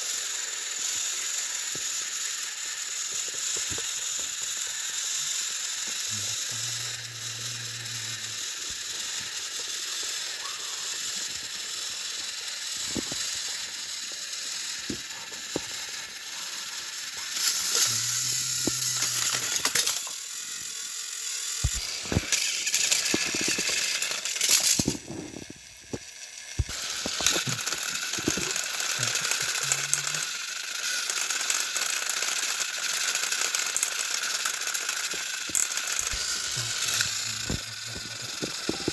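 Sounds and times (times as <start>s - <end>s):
toy train motors whirring: 0.0s - 38.9s.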